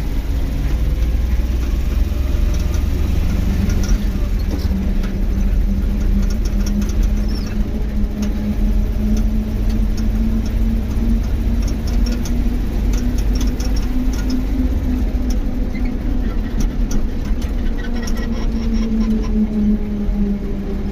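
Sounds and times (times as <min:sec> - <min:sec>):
tyres on rough unpaved road: 0:00.0 - 0:20.9
vehicle engine running: 0:00.0 - 0:20.9
wind rumble: 0:00.0 - 0:20.9
small ticks and rattles: 0:00.6 - 0:18.9.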